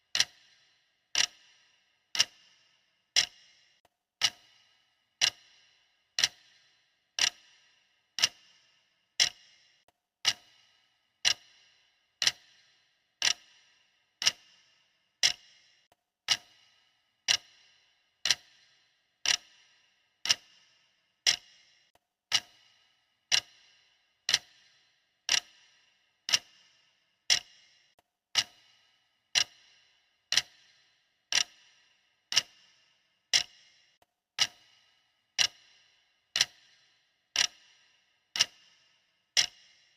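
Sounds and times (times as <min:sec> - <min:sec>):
stopwatch ticking: 0:00.0 - 0:39.9.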